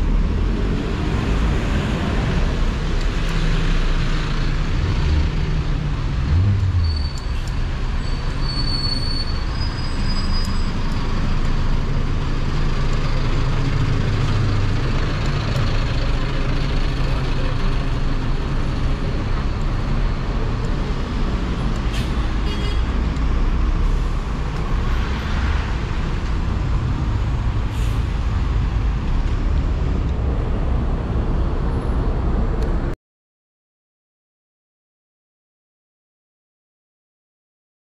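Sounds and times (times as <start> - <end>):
city bus: 0.0 - 33.0
rumble of passing vehicles: 0.0 - 33.0.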